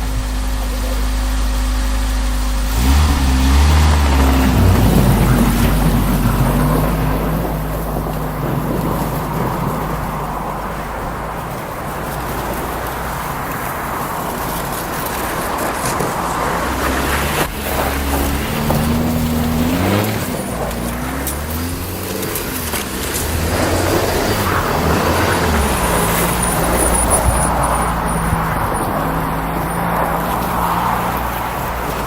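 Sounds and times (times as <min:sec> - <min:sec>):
car engine revving and idling: 0:00.0 - 0:32.0.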